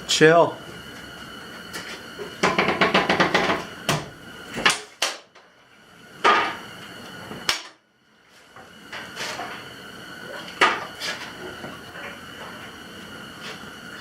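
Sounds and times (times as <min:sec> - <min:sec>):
propane heater hissing: 0:00.0 - 0:14.0.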